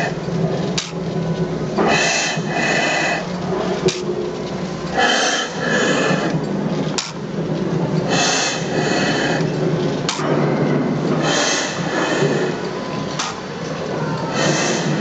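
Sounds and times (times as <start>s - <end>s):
steady low hum: 0.0s - 15.0s
engine hissing puffs: 1.5s - 4.0s, 4.6s - 6.6s, 7.2s - 15.0s.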